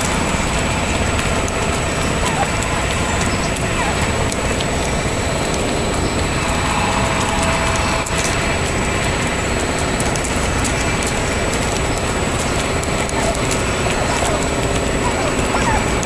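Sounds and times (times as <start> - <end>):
steady rushing noise: 0.0 - 16.0
turkeys pecking on asphalt: 0.0 - 16.0.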